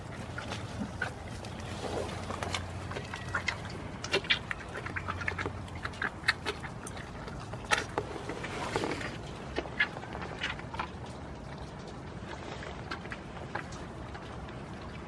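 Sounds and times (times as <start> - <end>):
goats crunching carrots: 0.0 - 15.0.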